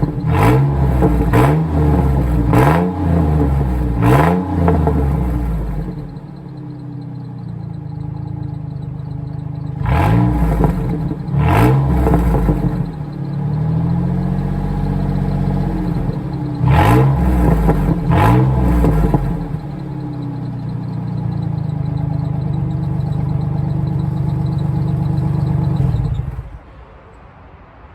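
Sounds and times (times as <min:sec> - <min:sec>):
truck engine idling and revving: 0:00.0 - 0:26.9.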